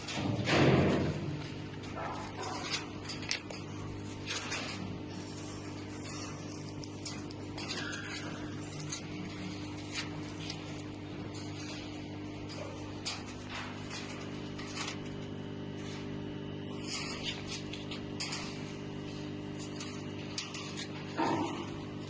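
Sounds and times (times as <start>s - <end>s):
laser cutter motors humming: 0.0s - 22.0s.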